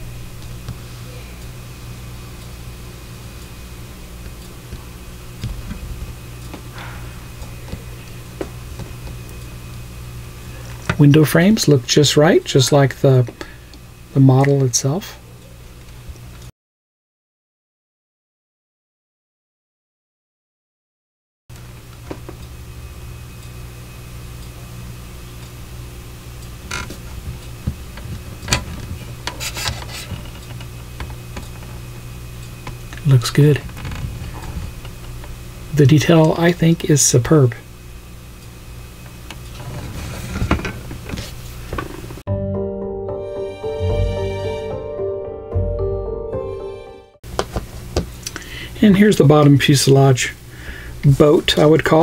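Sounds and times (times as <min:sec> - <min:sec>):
steady low hum: 0:00.0 - 0:16.5, 0:21.5 - 0:42.2, 0:47.2 - 0:52.0.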